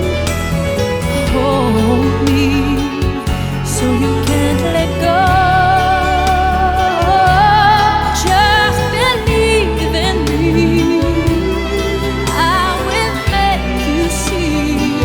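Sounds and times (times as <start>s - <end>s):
instrumental pop ballad: 0.0s - 15.0s.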